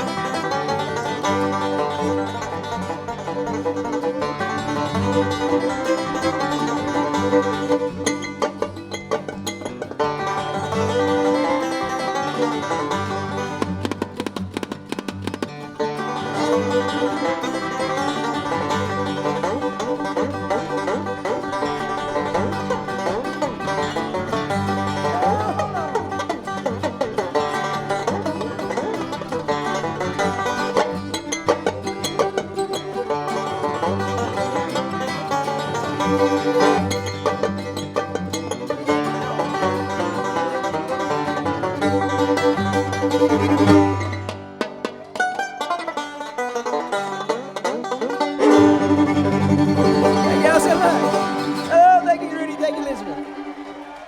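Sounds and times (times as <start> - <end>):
banjo picking: 0.0 - 54.0
guitar: 0.0 - 54.0.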